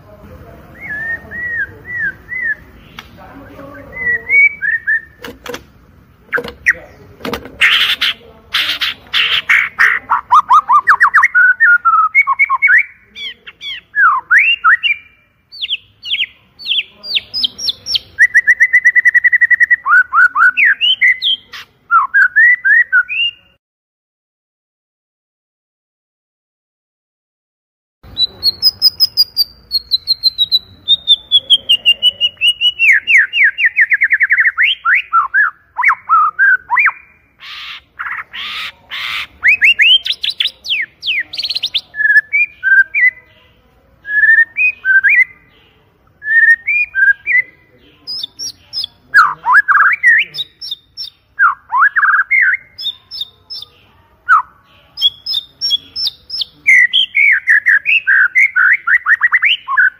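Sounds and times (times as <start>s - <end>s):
songbird singing: 0.0s - 23.6s, 28.0s - 59.9s.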